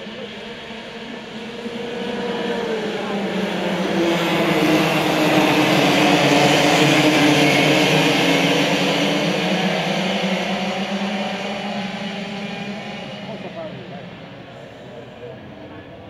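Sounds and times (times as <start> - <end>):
racing kart engines accelerating: 0.0 - 16.0.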